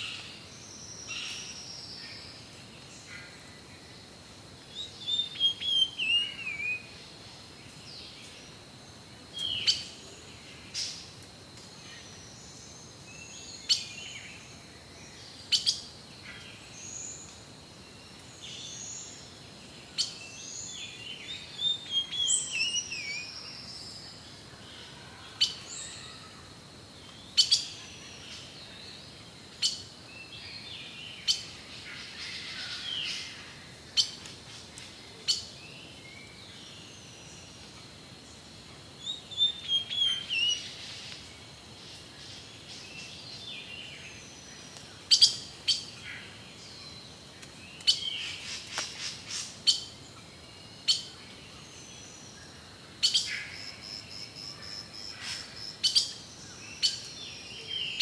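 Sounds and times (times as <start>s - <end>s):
forest birds calling: 0.0s - 8.6s, 9.3s - 58.0s.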